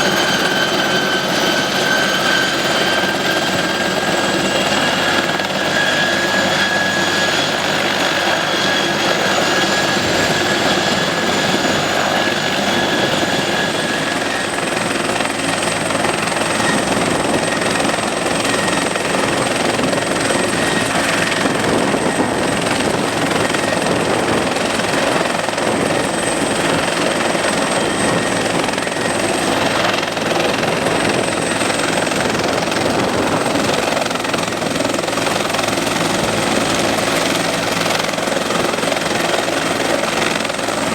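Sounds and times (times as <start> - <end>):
helicopter rotor and turbine: 0.0 - 40.9.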